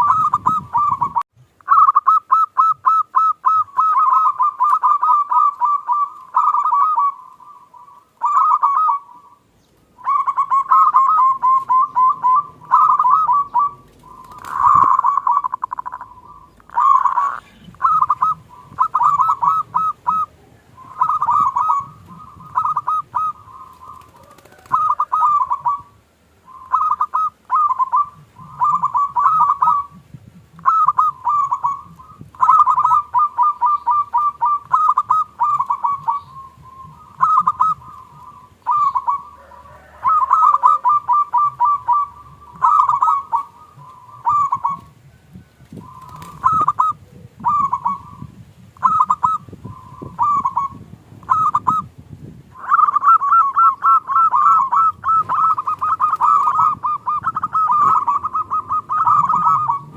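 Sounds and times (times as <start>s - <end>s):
dove rolling cooing song: 0.0s - 59.9s.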